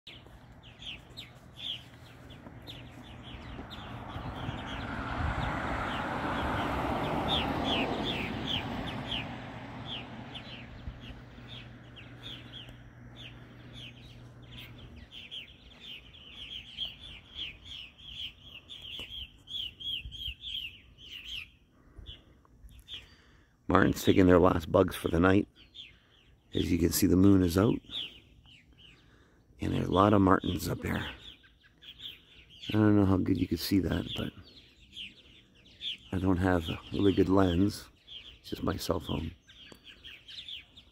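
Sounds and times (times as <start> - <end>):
birds chirping overhead: 0.0 - 40.9.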